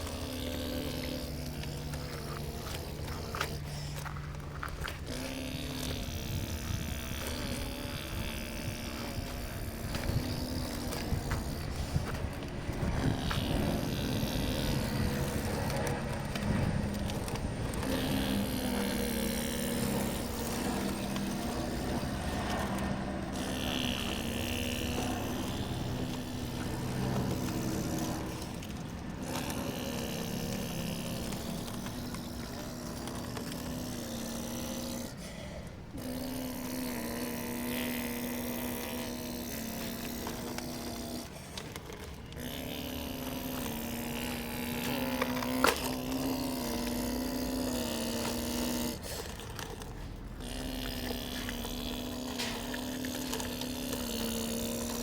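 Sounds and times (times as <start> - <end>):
model excavator motor whining: 0.0 - 55.0.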